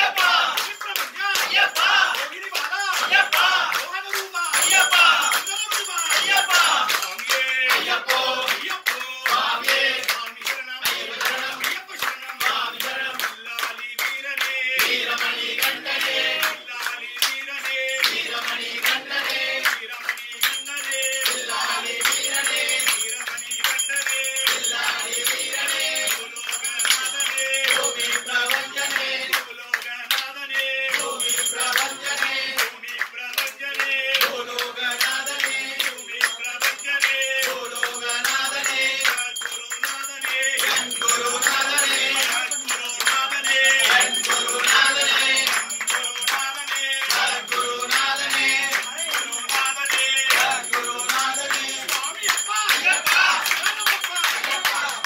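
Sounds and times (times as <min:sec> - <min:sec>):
group singing devotional song: 0:00.0 - 0:55.0
hand-clapping: 0:00.0 - 0:55.0.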